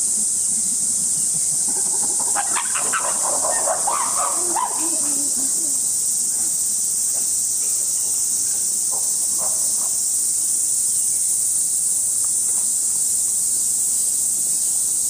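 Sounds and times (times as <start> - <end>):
cicada chorus hissing: 0.0 - 15.0.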